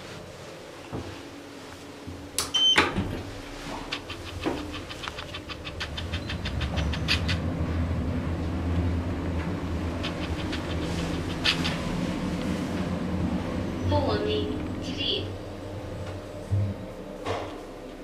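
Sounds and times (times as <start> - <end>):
elevator low hum: 0.0 - 18.0.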